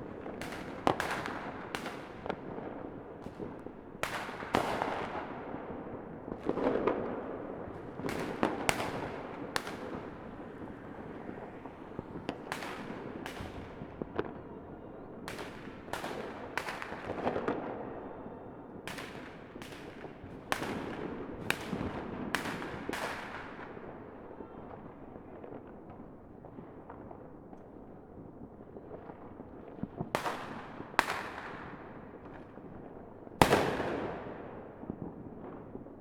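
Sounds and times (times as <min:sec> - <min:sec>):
distant fireworks bangs and crackle: 0:00.0 - 0:36.0.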